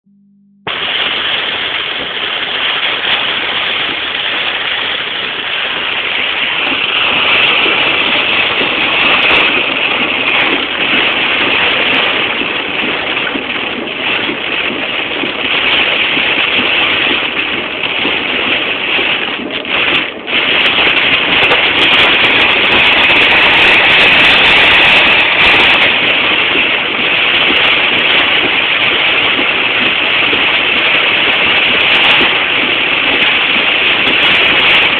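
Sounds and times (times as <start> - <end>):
heavy rain in strong wind: 0.7 - 34.9.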